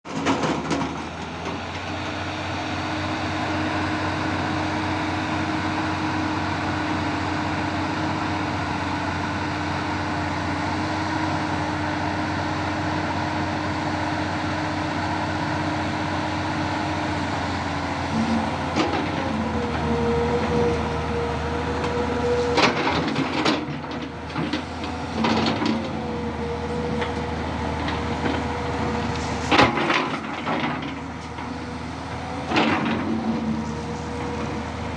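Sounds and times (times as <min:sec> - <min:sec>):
excavator engine droning: 0:00.1 - 0:34.9.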